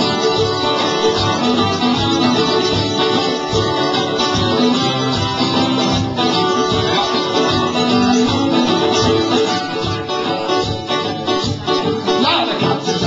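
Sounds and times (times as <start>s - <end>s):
plucked string instrument: 0.0s - 13.0s
strummed acoustic guitar: 0.0s - 13.0s.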